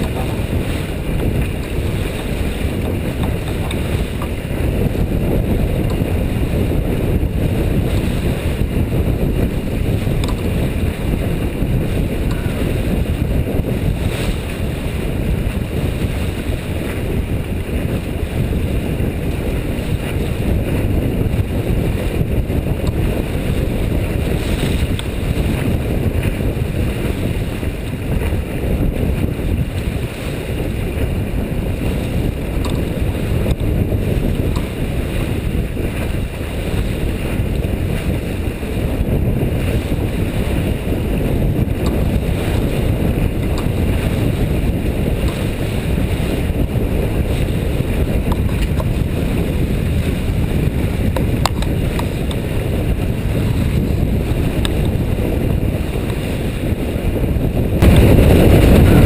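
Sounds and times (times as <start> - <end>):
water rushing along hull: 0.0 - 59.0
wind rumbling on microphone: 0.0 - 59.0.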